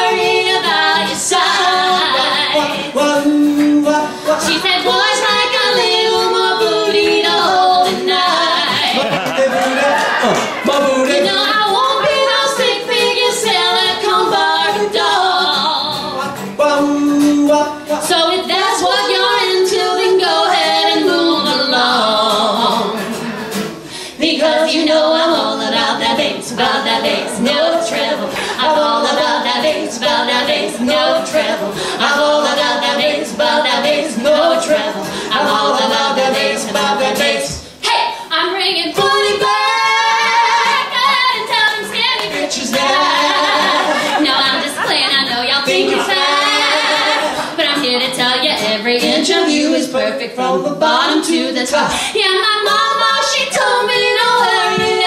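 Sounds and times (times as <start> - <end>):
woman and man singing pop song: 0.0 - 23.4, 24.1 - 55.0
strummed acoustic guitar: 0.0 - 38.2, 38.8 - 55.0.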